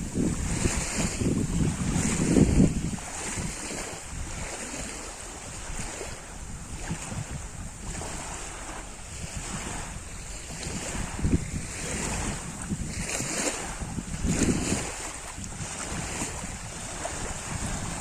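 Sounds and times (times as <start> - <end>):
water splashing and lapping: 0.0 - 18.0
wind buffeting microphone: 0.0 - 18.0.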